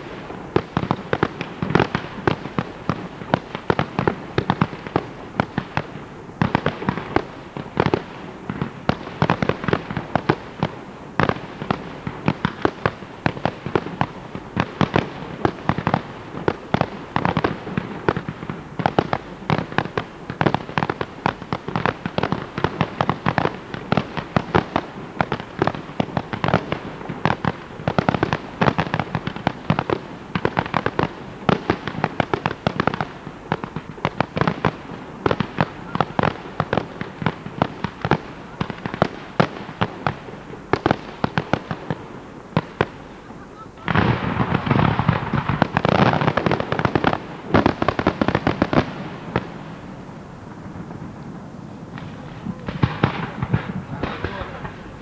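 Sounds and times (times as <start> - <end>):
fireworks shells bursting: 0.0 - 42.0, 43.8 - 49.9.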